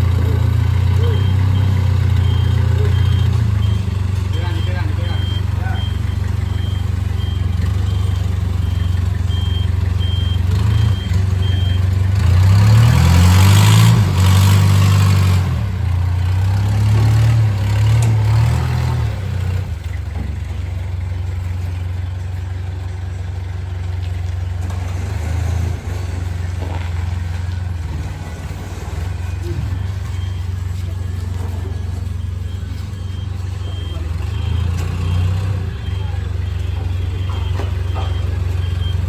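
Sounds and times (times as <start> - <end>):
reversing beeper: 0.0 - 21.9, 24.2 - 39.0
vehicle engine running: 0.0 - 39.0.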